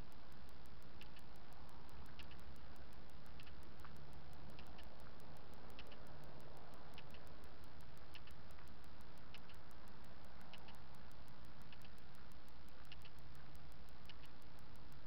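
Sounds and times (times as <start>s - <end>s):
fast electronic ticking: 0.0s - 15.0s
low hum and hiss: 0.0s - 15.0s.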